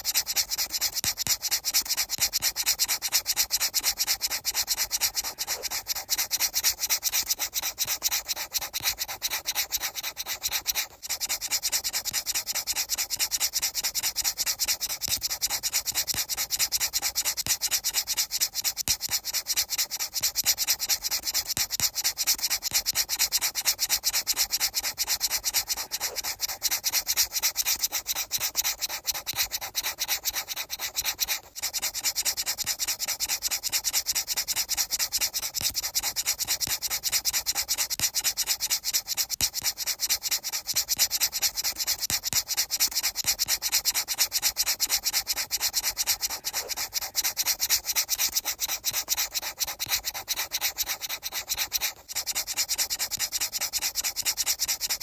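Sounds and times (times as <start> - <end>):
fast brushing strokes: 0.0 - 55.0.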